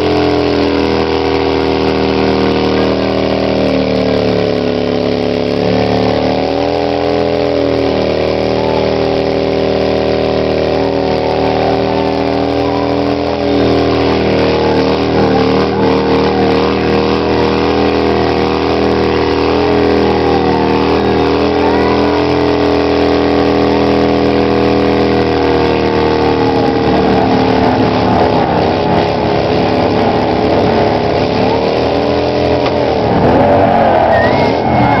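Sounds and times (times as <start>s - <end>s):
motorcycle engine at high revs: 0.0s - 35.0s.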